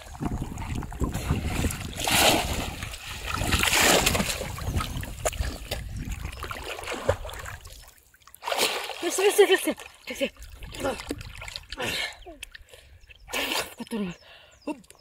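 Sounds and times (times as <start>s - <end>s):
water splashing: 0.0s - 12.2s.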